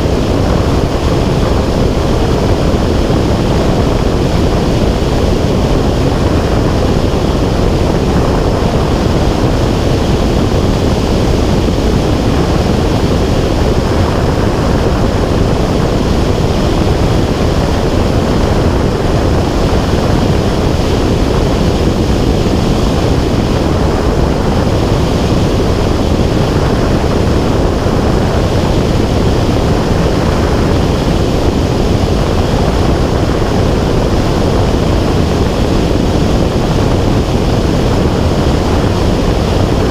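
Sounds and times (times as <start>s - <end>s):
aircraft engine and propeller drone: 0.0s - 39.9s
wind over the microphone: 0.0s - 39.9s.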